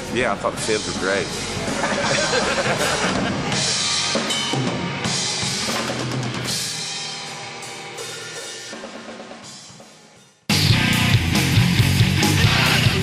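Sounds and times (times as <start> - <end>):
rock band playing: 0.5 - 13.0.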